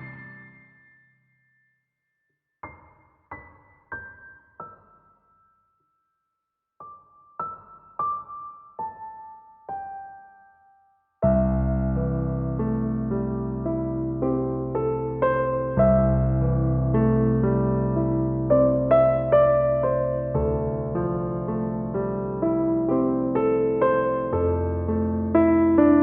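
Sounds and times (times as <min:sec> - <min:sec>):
solo piano music: 0:00.0 - 0:01.3, 0:02.6 - 0:05.8, 0:06.8 - 0:26.0.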